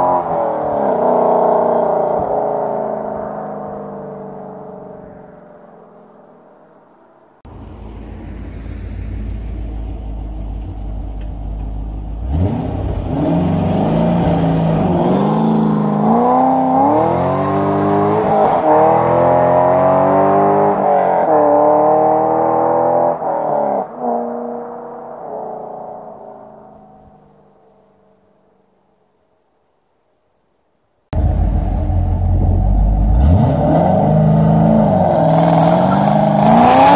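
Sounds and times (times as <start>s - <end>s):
car engine rumbling and revving: 0.0s - 6.5s, 7.4s - 27.5s, 31.2s - 36.9s.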